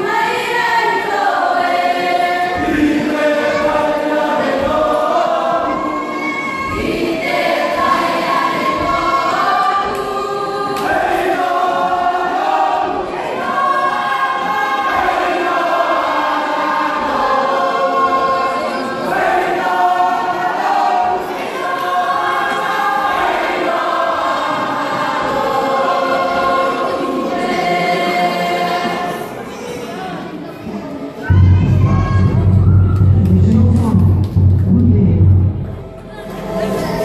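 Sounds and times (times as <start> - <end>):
choir singing in harmony: 0.0 - 33.2, 35.4 - 37.0.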